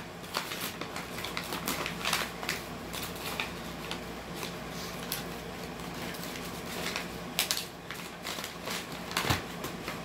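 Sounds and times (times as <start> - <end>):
paper bag crinkling: 0.2 - 10.0.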